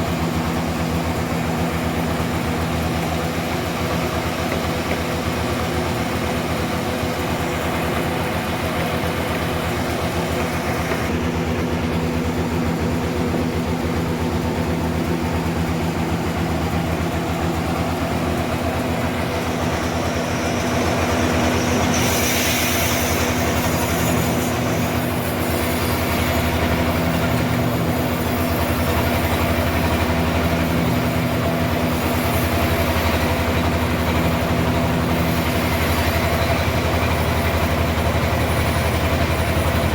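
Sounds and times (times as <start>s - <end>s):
hissing saw: 0.0s - 12.8s, 13.4s - 39.9s
engine drone: 0.0s - 39.9s.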